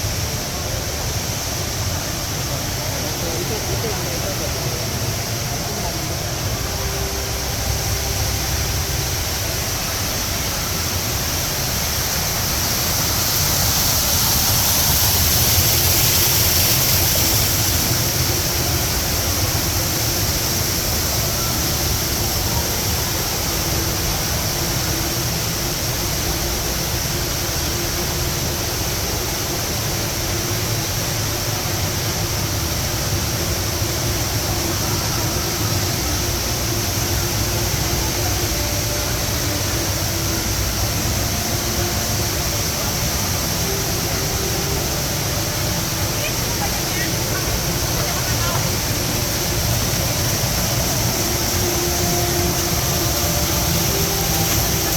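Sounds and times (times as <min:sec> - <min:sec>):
indoor waterfall rushing: 0:00.0 - 0:54.9.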